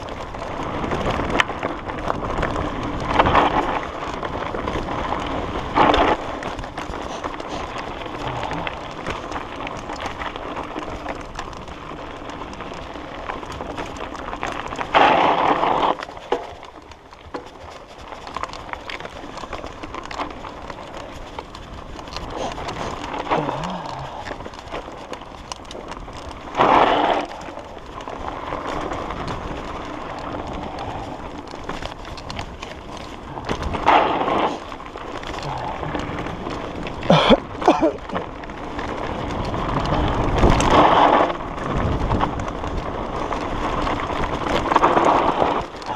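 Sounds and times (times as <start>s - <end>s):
bike hitting rough ground: 0.0s - 45.9s
bike tyre and wind noise: 0.0s - 45.9s.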